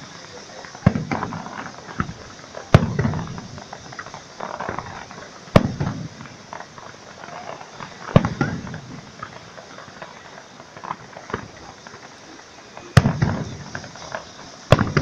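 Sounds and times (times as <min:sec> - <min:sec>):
firework crackles and snaps: 0:00.0 - 0:15.0
firework shell bursts: 0:00.0 - 0:15.0.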